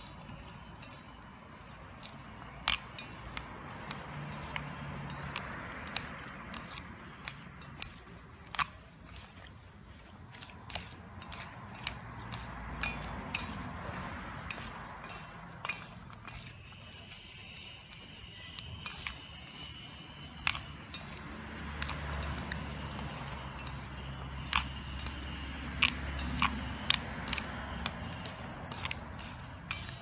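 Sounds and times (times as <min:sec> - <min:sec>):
chopsticks clicking on metal bowl: 0:00.0 - 0:09.5, 0:10.4 - 0:30.0.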